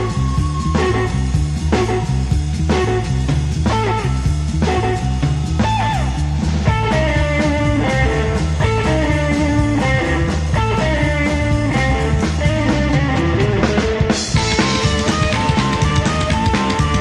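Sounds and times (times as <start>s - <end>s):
electric guitar lead line: 0.0s - 17.0s
pulsing bass: 0.0s - 17.0s.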